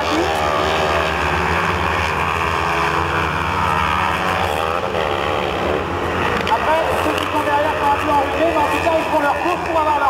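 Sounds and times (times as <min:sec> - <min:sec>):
distant racing engines revving: 0:00.0 - 0:10.0
steady low drone: 0:00.0 - 0:10.0.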